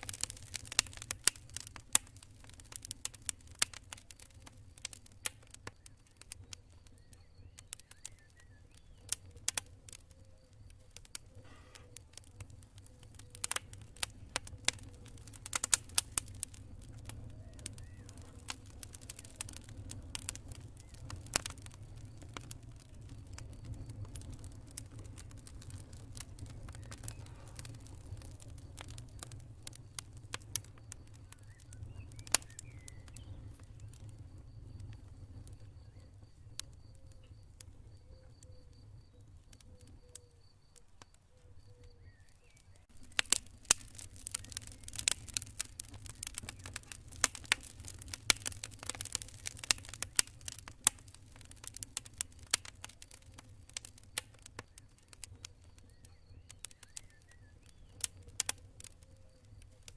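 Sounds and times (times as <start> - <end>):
campfire crackling and popping: 0.0 - 59.9
faint insect trill: 3.8 - 59.9.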